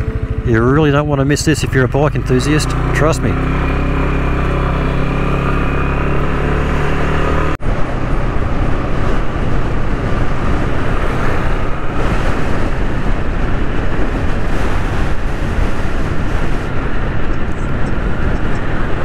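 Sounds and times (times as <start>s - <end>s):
motorcycle engine and wind rushing: 0.0s - 19.0s.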